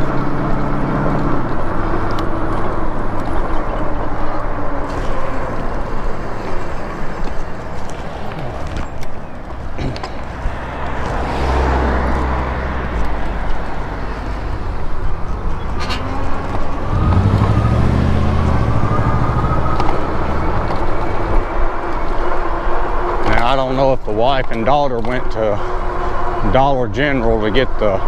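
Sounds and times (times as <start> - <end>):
cars and trucks passing: 0.0 - 28.0
steady traffic rumble: 0.0 - 28.0.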